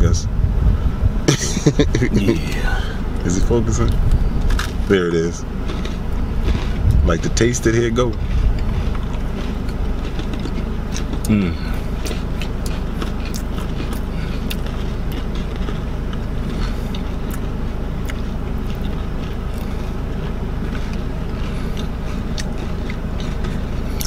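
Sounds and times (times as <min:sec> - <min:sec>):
car cabin rumble: 0:00.0 - 0:24.0
cookies being chewed: 0:02.1 - 0:24.0.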